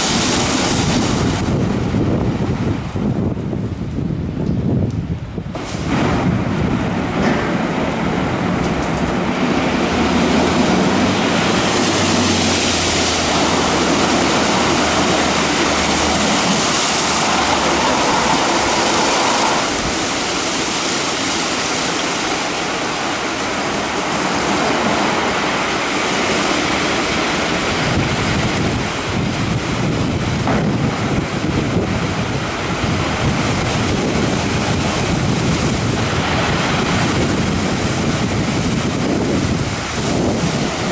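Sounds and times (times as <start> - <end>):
car wash brushes and water rushing: 0.0 - 4.4, 5.0 - 40.9.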